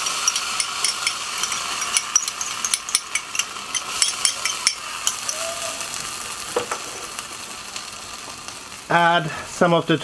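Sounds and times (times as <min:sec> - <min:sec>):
food sizzling on a grill: 0:00.0 - 0:10.0.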